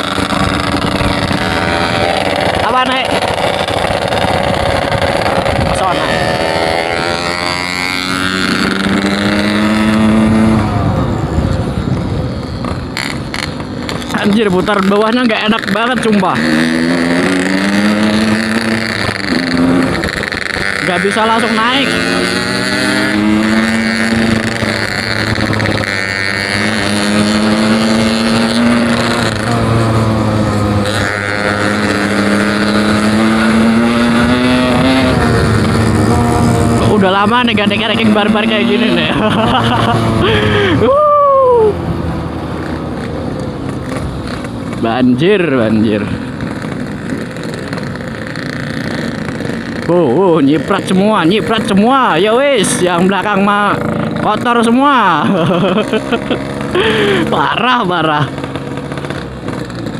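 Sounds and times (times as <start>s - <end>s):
motorcycle engine under throttle: 0.0s - 59.9s
wind and road noise: 0.0s - 59.9s.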